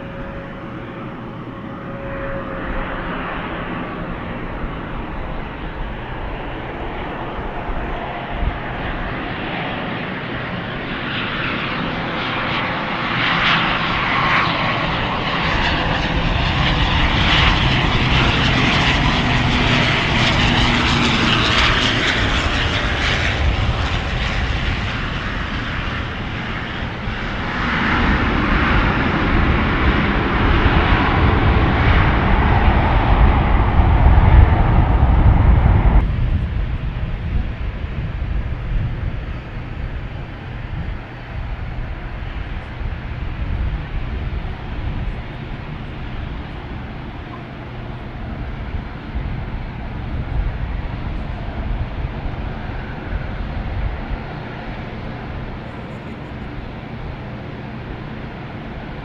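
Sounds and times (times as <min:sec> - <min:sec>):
airliner engines passing: 0:00.0 - 0:59.0
deep rumble: 0:00.0 - 0:59.0.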